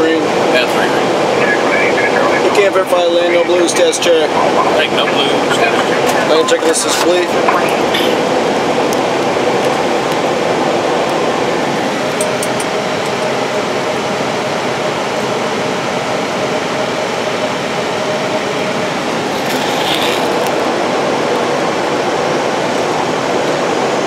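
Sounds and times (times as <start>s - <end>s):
airflow and engine noise: 0.0s - 24.0s.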